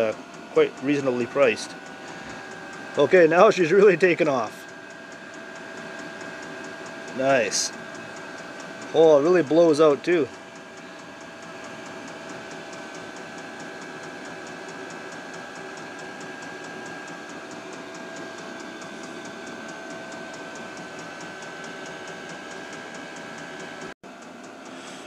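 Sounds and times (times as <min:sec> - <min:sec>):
fuel pump ticking: 0:00.0 - 0:24.8
heater fan whine and air rush: 0:00.0 - 0:25.0.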